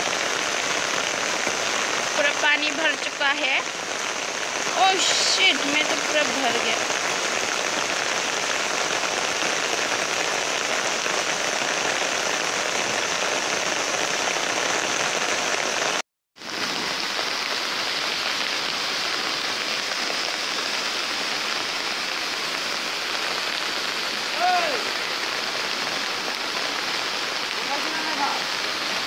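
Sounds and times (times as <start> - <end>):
floodwater rushing through a channel: 0.0 - 29.0
heavy rain on wet ground: 0.0 - 29.0.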